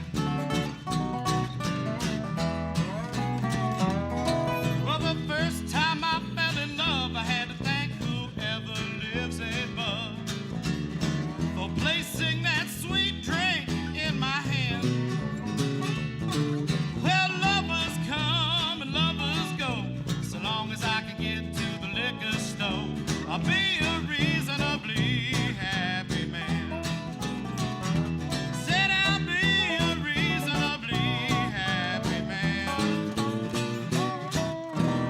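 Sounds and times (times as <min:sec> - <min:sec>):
country band with guitar: 0:00.0 - 0:35.0.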